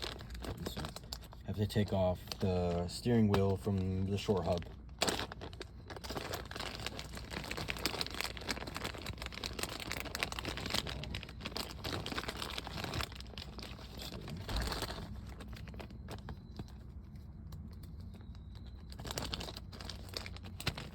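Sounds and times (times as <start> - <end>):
crinkling handling noise with clicks: 0.0 - 20.9.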